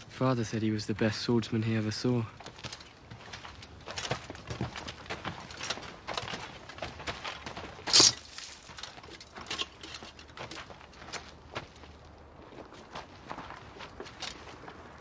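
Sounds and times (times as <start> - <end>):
footsteps on stony ground: 1.6 - 15.0.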